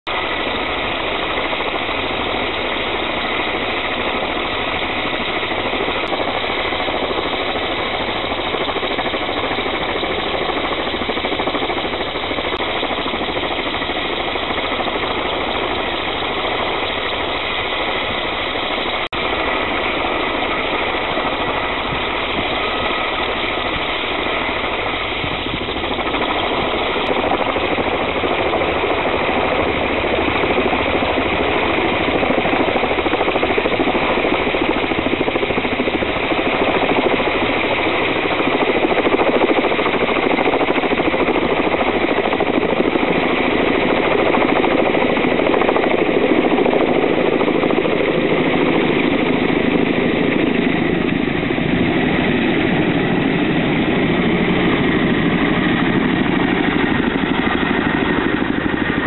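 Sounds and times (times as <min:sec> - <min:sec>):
helicopter engine and rotor noise: 0:00.1 - 0:59.0.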